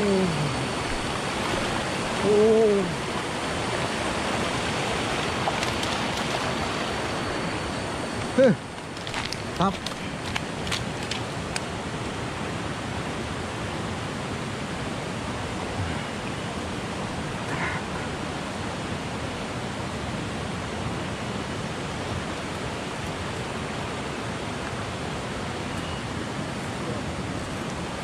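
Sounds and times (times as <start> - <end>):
river water rushing over stones: 0.0 - 28.0.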